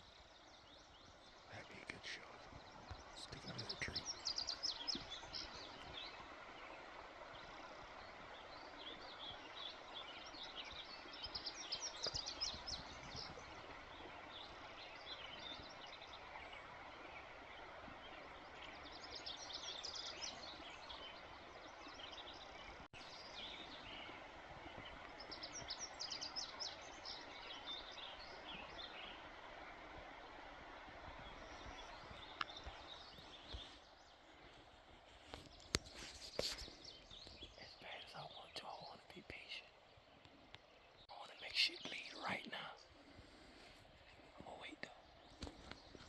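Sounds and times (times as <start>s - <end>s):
faint outdoor background noise: 0.0s - 46.0s
songbird chirping: 0.0s - 46.0s.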